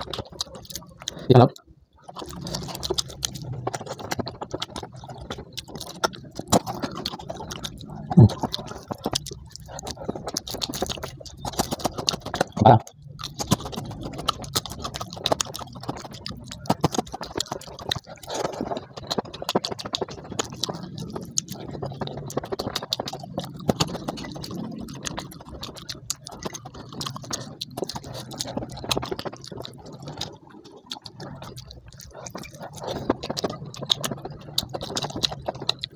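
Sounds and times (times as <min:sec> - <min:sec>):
person chewing and lip smacking: 0:00.0 - 0:35.9
wet mouth clicks: 0:00.0 - 0:35.9.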